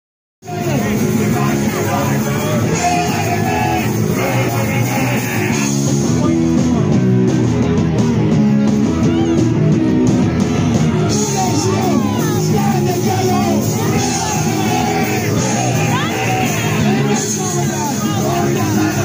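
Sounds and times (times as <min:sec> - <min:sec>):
drum kit: 0:00.4 - 0:19.0
electric guitar: 0:00.4 - 0:19.0.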